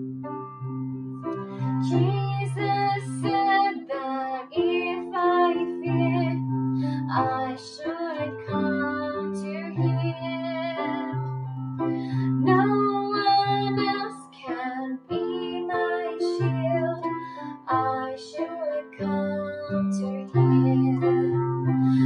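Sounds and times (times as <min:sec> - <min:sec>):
digital piano: 0:00.0 - 0:22.0
woman singing: 0:01.6 - 0:11.4, 0:12.0 - 0:22.0.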